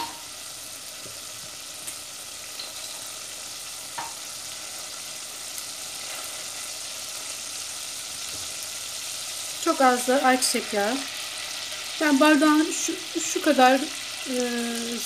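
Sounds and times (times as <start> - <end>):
fat sizzling in hot oil: 0.0 - 15.0.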